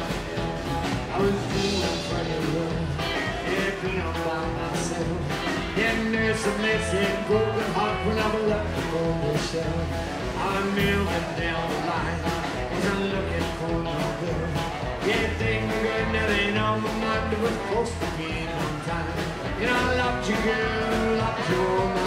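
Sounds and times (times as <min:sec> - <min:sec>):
man singing: 0:00.0 - 0:22.0
rockabilly band playing: 0:00.0 - 0:22.0.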